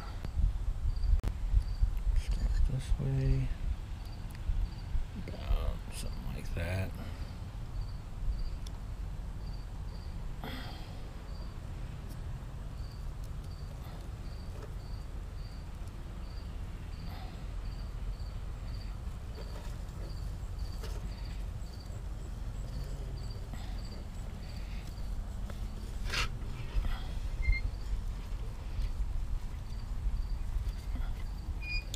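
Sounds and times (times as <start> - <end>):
low background rumble: 0.0 - 31.9
insect chirping: 0.3 - 1.9, 3.9 - 31.9.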